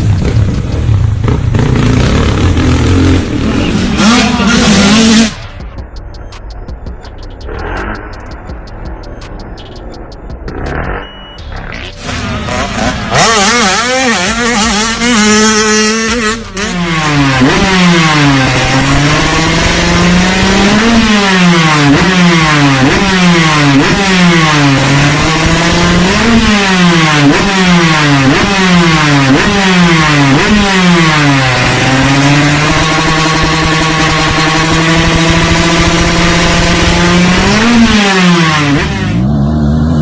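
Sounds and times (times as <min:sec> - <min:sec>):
off-road engine revving: 0:00.0 - 0:05.7, 0:07.3 - 0:40.0.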